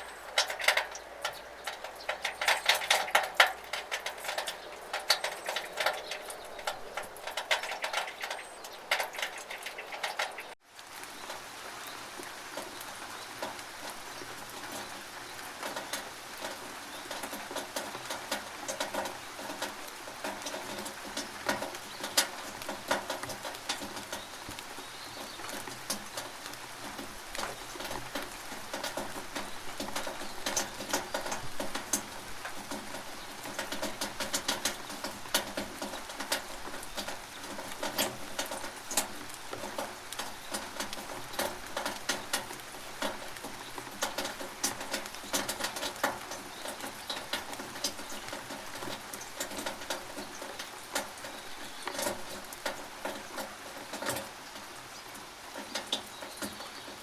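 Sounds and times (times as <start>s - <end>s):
water drips and splashes: 0.0s - 57.0s
water running through gutter: 0.0s - 57.0s.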